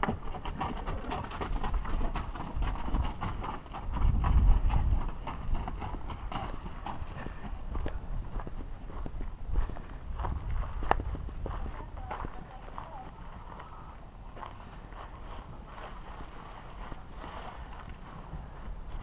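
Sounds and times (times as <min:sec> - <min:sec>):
hoofbeats on gravel: 0:00.0 - 0:19.0
person's footsteps: 0:00.0 - 0:19.0.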